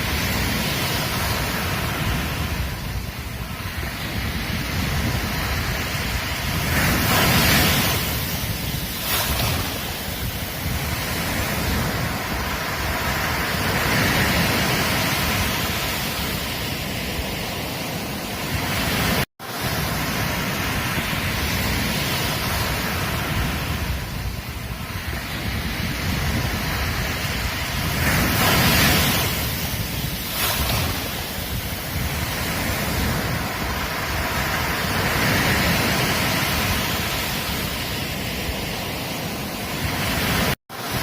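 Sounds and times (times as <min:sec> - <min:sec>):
ocean surf washing onto beach: 0:00.0 - 0:41.0.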